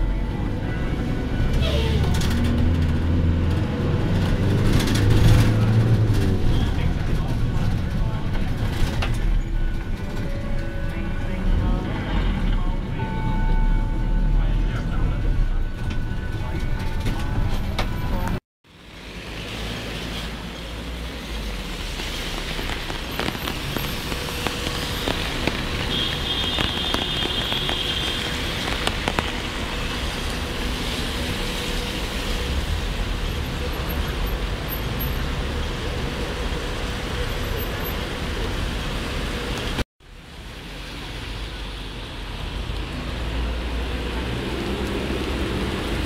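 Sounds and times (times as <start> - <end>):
tyres on wet road: 0.0 - 46.0.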